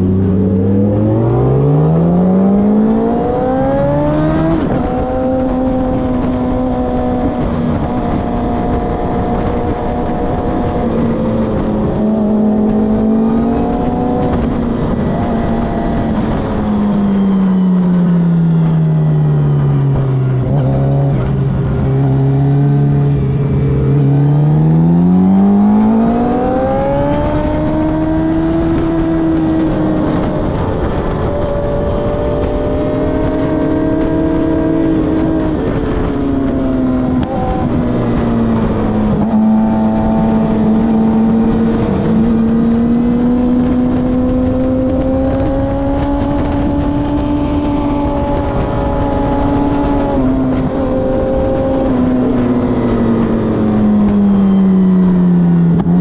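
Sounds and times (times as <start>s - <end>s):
motorcycle engine: 0.0s - 56.0s
wind rushing over microphone: 0.0s - 56.0s.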